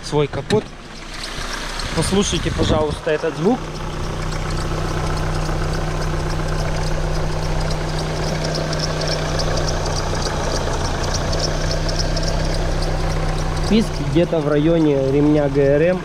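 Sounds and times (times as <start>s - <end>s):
car engine idling: 0.0s - 16.0s
pulley squeaking chirps: 0.7s - 16.0s.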